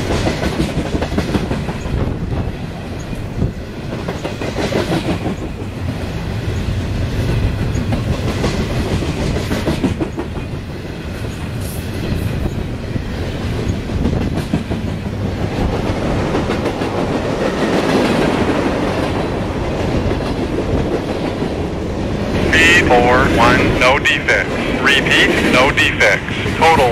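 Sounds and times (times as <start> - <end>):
train wheels clicking over rail joints: 0.0 - 21.8.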